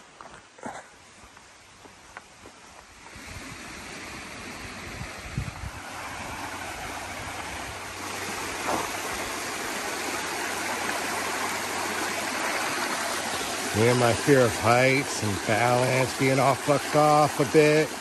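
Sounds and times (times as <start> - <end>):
creek water rushing: 2.3 - 18.0.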